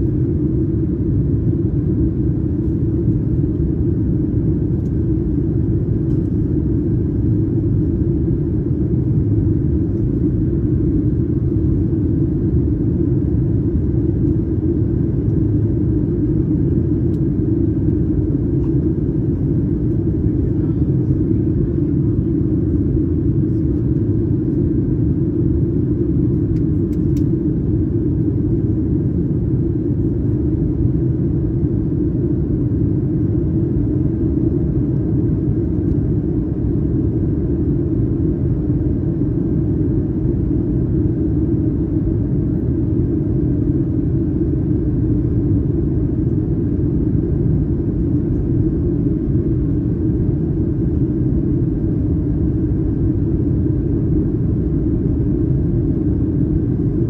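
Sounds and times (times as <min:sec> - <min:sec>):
jet engine roar in cabin: 0:00.0 - 0:57.0.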